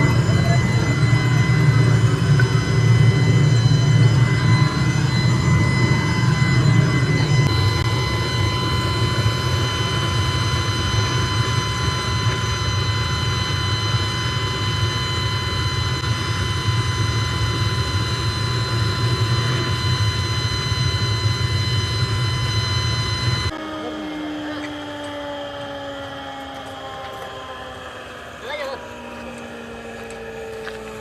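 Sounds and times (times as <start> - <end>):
factory machinery humming: 0.0 - 31.0
high-pitched machine whine: 0.0 - 31.0.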